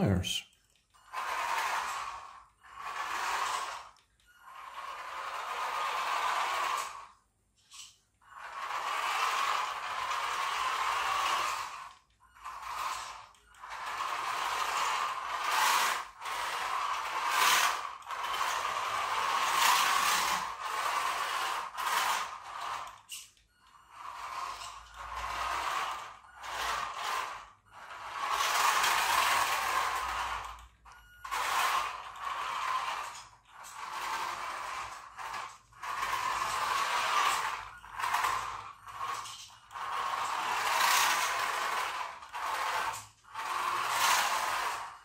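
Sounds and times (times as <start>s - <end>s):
toy car motor whirring: 0.5s - 45.0s.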